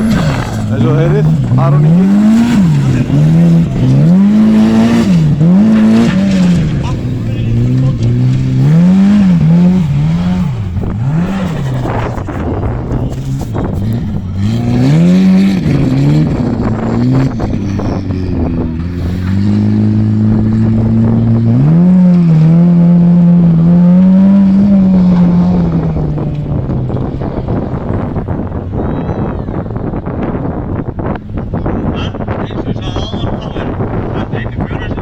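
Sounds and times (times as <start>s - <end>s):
car engine revving hard: 0.0s - 28.8s.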